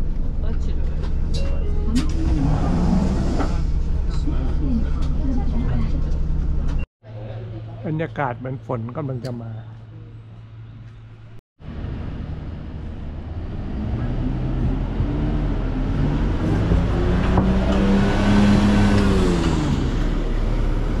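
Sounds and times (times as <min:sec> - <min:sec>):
bus engine hum: 0:00.0 - 0:06.9, 0:09.4 - 0:21.0.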